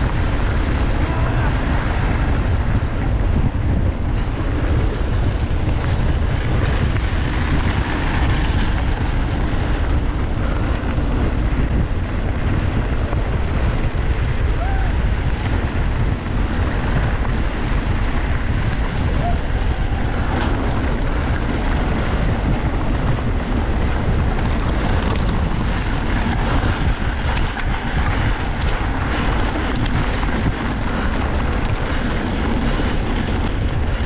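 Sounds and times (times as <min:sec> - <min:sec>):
bike rattles and clicks: 0:00.0 - 0:34.0
bike tyres rumbling on trail: 0:00.0 - 0:34.0
wind buffeting the microphone: 0:00.0 - 0:34.0.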